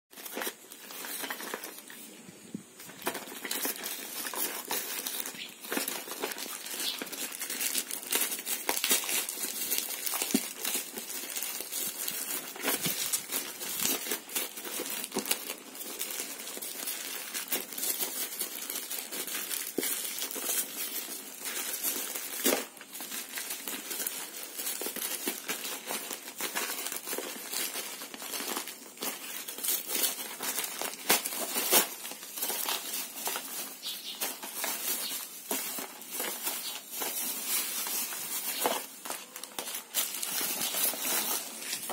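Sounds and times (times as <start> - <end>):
plastic crinkling and crackling: 0.1 - 41.9.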